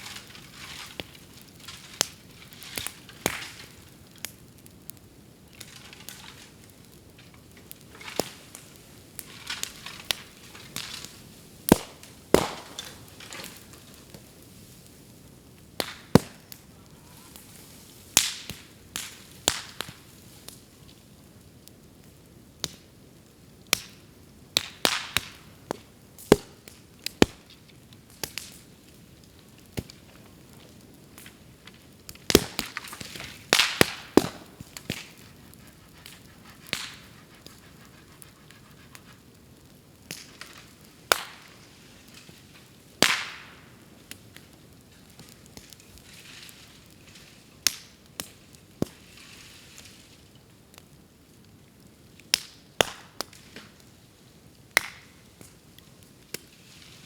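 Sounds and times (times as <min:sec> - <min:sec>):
bamboo popping in fire: 0:00.0 - 0:57.0.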